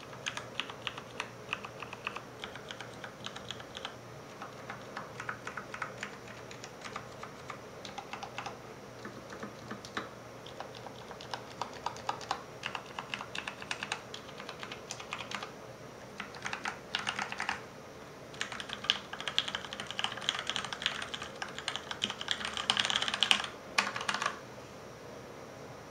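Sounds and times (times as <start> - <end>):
mechanical keyboard typing: 0.0 - 15.5, 16.2 - 17.6, 18.3 - 24.4.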